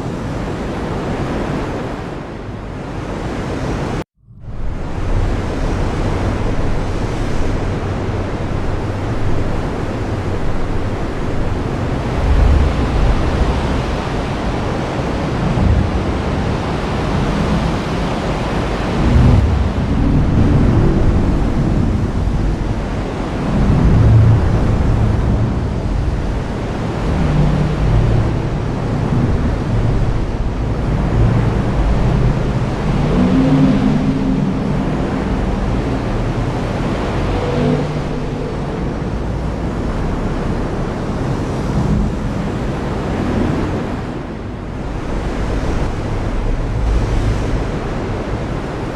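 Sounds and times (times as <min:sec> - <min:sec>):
low rumble: 0:04.1 - 0:48.9.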